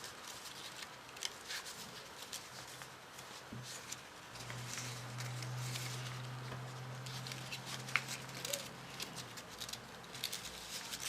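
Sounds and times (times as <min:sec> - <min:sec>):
low steady hum: 0:00.0 - 0:11.0
paper rustling and folding: 0:00.0 - 0:11.0.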